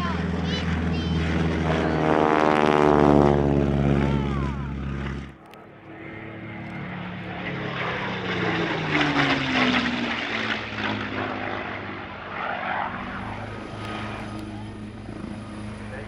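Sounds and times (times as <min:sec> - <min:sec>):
propeller aircraft flying past: 0:00.0 - 0:16.0.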